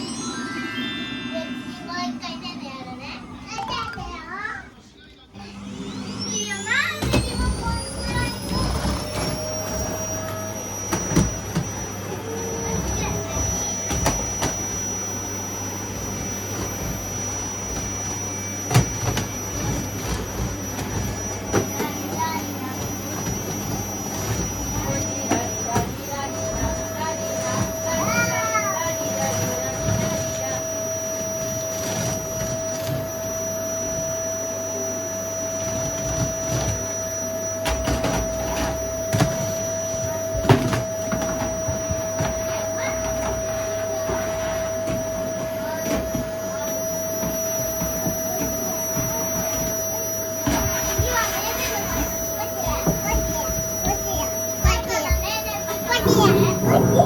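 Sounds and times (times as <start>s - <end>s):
vacuum cleaner running: 0.0s - 4.6s, 5.2s - 57.0s.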